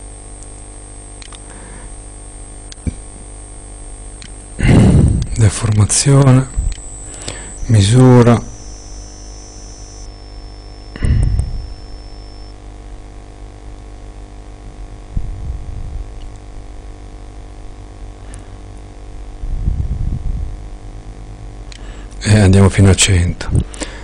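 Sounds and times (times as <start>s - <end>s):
buzzy mains hum: 0.0s - 24.0s.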